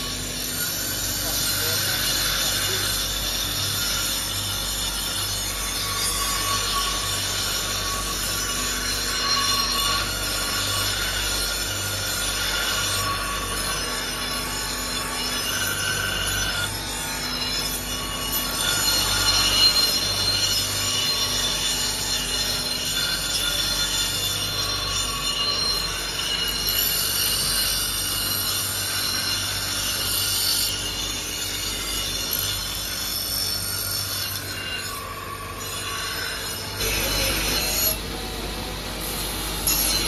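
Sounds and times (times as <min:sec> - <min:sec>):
metal grinding on abrasive wheel: 0:00.0 - 0:40.0.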